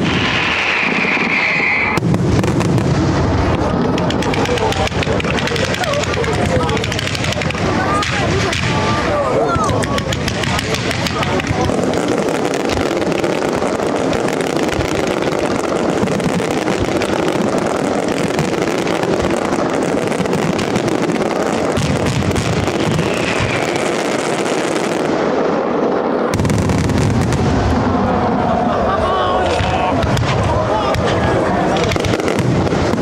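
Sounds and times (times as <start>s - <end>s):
deep firework salutes barrage: 0.0s - 33.0s
fireworks crackling and banging: 0.0s - 33.0s.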